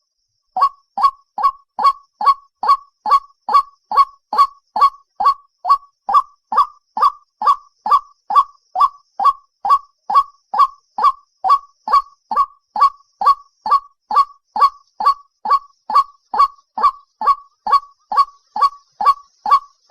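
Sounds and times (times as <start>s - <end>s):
waterhen calling: 0.6s - 19.9s.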